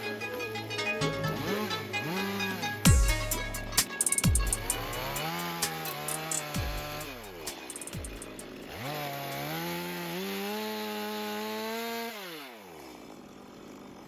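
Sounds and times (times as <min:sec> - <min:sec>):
chainsaw engine revving: 0:01.4 - 0:14.0.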